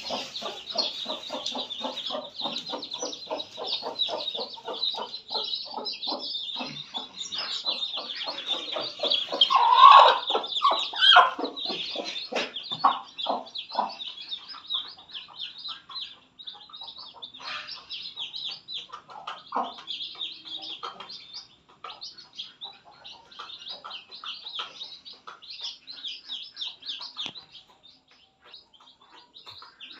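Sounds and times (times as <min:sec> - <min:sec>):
chicks peeping: 0:00.0 - 0:30.0
hen clucking: 0:00.0 - 0:30.0.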